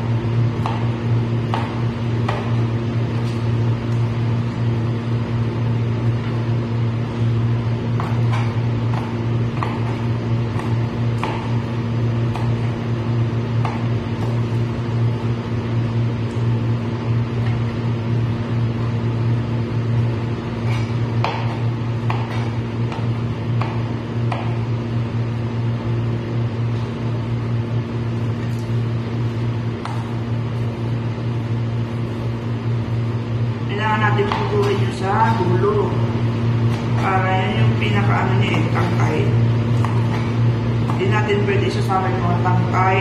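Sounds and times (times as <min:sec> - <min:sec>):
low machine hum: 0:00.0 - 0:43.0.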